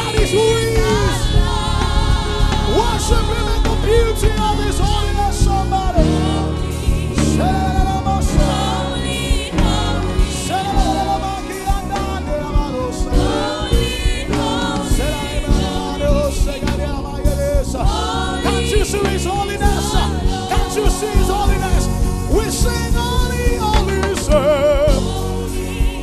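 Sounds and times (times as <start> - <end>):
congregation singing: 0.0 - 26.0
live band playing: 0.0 - 26.0.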